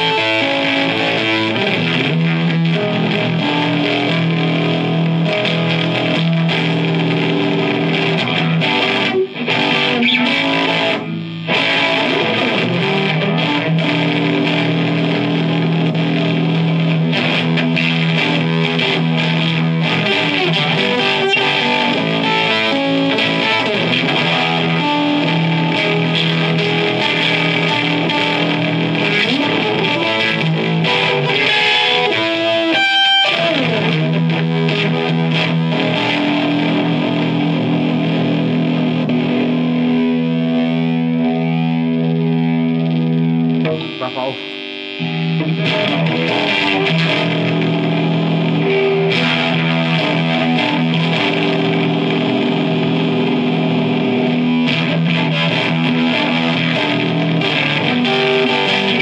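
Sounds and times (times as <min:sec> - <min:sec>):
fuzz-distorted electric guitar: 0:00.0 - 0:59.0.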